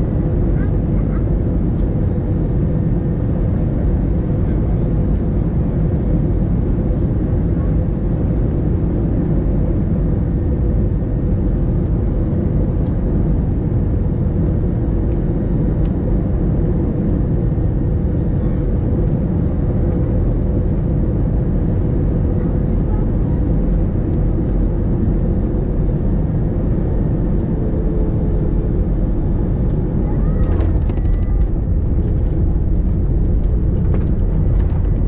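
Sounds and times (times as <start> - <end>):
airliner cabin engine noise: 0.0 - 35.0
constant hum: 0.0 - 35.0.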